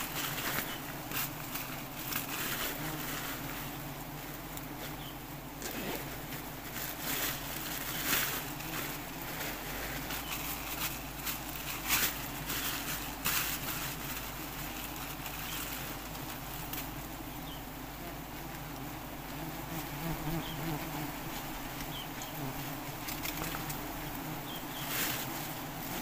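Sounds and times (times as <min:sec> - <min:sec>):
honeybee colony buzzing: 0:00.0 - 0:26.0.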